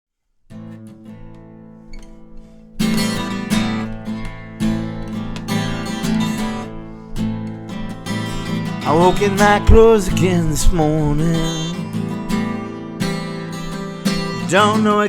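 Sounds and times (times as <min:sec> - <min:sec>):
acoustic guitar playing: 0:00.5 - 0:15.0.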